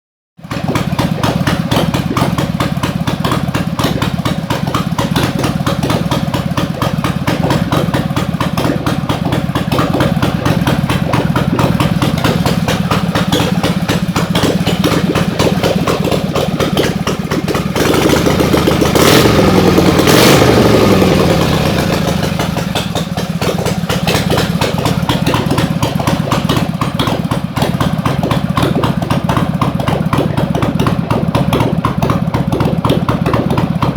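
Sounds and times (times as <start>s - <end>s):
motorcycle engine idling and revving: 0.4s - 33.9s.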